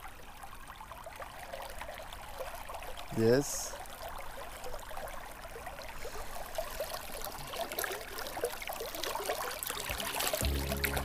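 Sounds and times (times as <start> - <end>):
river water babbling: 0.0 - 11.0.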